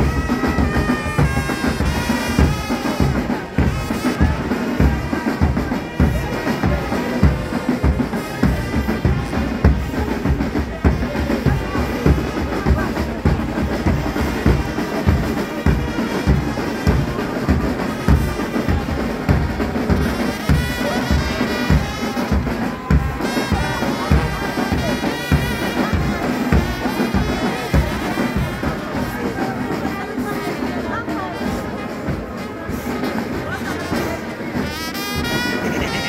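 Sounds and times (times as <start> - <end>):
bass drum beating: 0.0 - 29.7
brass band playing: 0.0 - 36.0.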